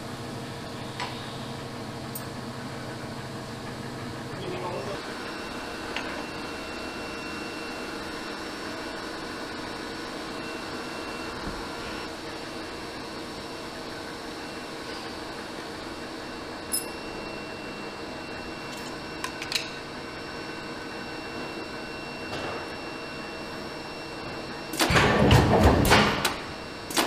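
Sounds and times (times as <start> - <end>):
factory machinery hum: 0.0 - 27.0.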